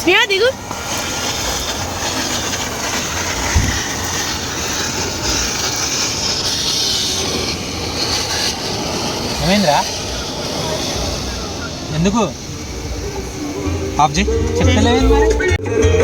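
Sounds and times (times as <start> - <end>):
mechanical rumble with hiss: 0.1 - 15.6.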